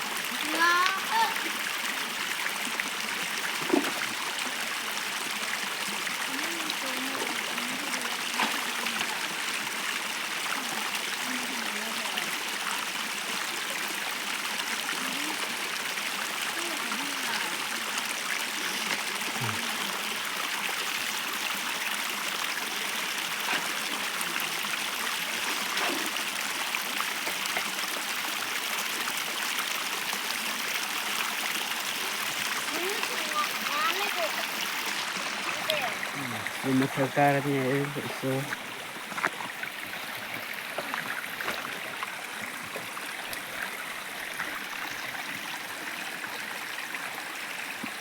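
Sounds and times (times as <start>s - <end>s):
stream water flowing: 0.0s - 48.0s
water gurgles: 0.0s - 48.0s.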